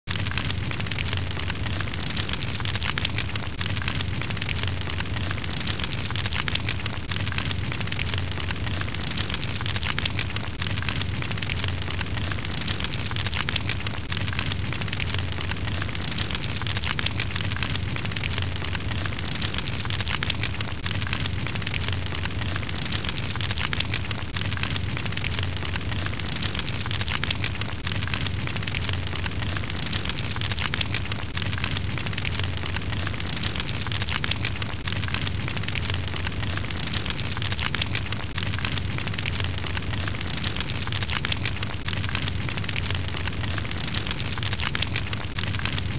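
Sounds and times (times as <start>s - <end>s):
fire roaring and crackling: 0.1s - 45.9s.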